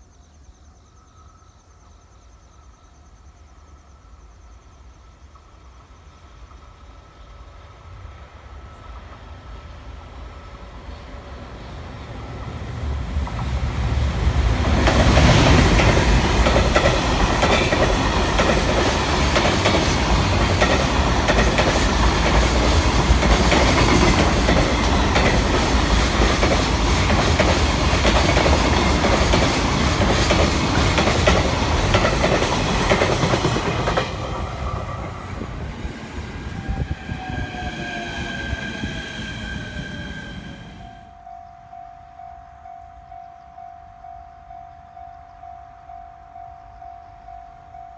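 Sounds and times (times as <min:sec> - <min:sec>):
freight train passing: 0:02.6 - 0:47.9.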